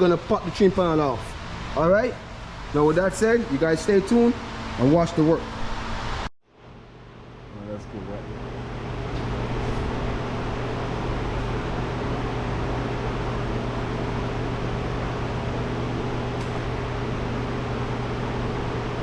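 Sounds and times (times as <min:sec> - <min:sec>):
mechanical hum and rushing: 0:00.0 - 0:06.3, 0:08.0 - 0:19.0.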